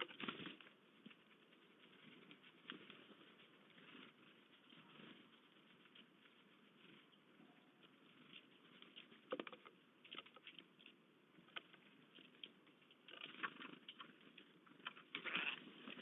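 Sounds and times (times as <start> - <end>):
animals tapping and rustling on feeder: 0.0 - 16.0.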